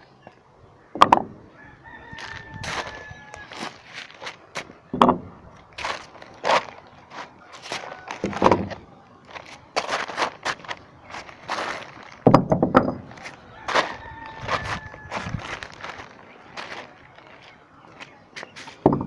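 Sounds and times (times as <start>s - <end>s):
footsteps on concrete: 2.1s - 4.8s, 5.8s - 12.4s, 13.0s - 19.0s
knocks and scuffs: 2.2s - 4.8s, 5.8s - 19.0s
rustling handling noise: 2.2s - 4.8s, 5.6s - 19.0s.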